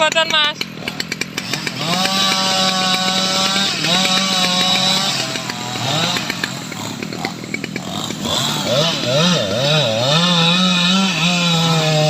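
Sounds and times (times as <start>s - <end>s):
chainsaw running at high revs: 0.0s - 12.0s.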